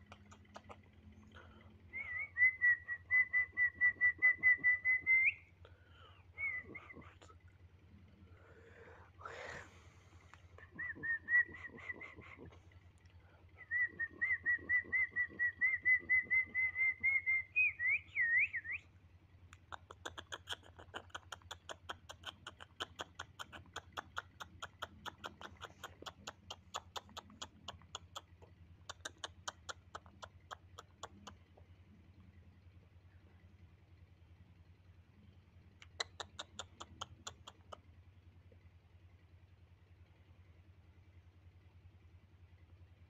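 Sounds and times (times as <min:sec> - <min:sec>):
rapid quiet chirps: 0:00.0 - 0:43.0.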